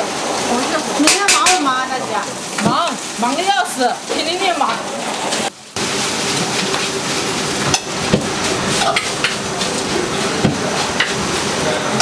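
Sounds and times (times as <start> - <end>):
food frying sizzle: 0.0 - 12.0.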